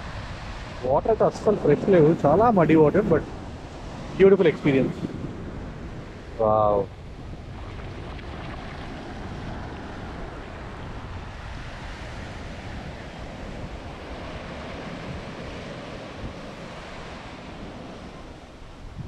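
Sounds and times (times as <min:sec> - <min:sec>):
surf breaking on shore: 0:00.0 - 0:19.0
wind rumbling on microphone: 0:00.0 - 0:19.0.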